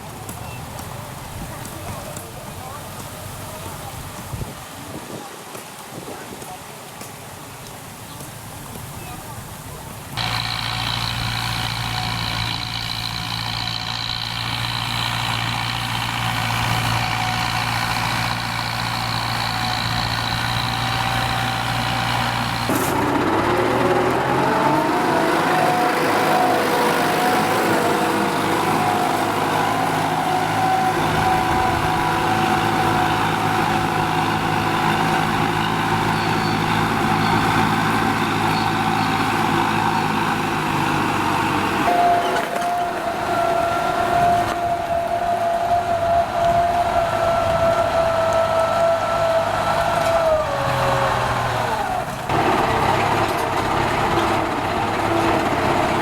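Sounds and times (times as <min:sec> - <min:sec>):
tractor engine running and revving: 0:00.0 - 0:05.2, 0:07.4 - 0:56.0.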